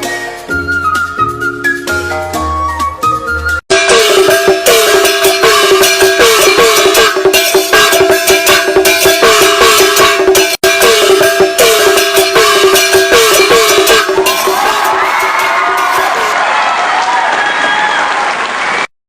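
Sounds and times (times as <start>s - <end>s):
background music with steady beat: 0.0s - 16.4s.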